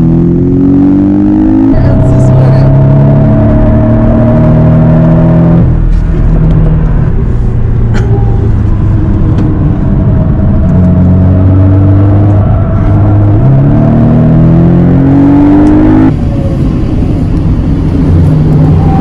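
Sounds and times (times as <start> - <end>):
car engine pulling: 0.0 - 19.0.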